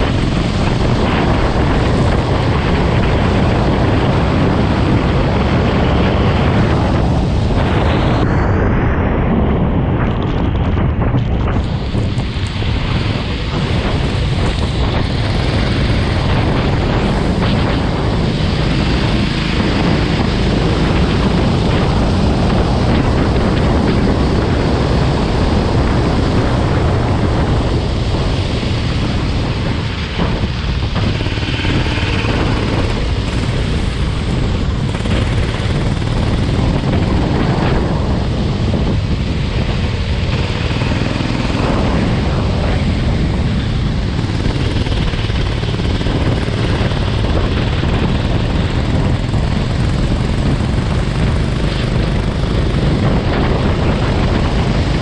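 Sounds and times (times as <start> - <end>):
go-kart engine running: 0.0 - 8.2, 10.0 - 55.0
wind buffeting microphone: 0.0 - 55.0.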